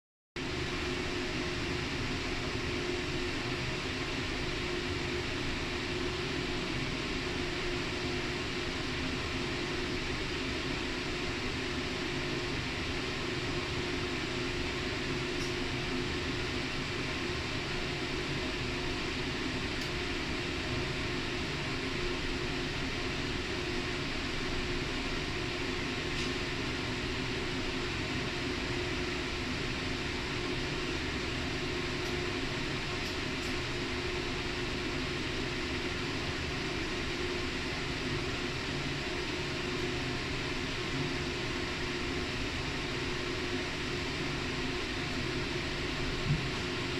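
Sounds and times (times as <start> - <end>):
low machine hum: 0.4 - 46.9.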